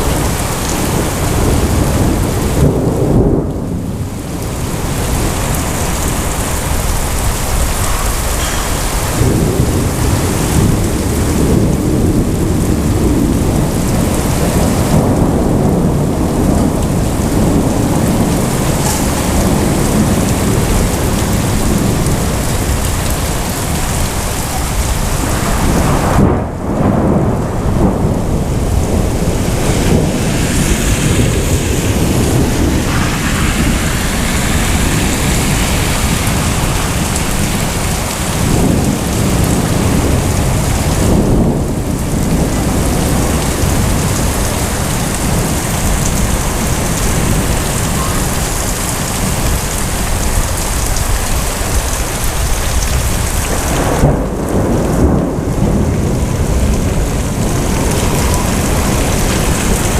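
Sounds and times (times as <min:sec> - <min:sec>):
heavy rain pouring: 0:00.0 - 0:59.9
thunder rumbling: 0:00.0 - 0:59.9.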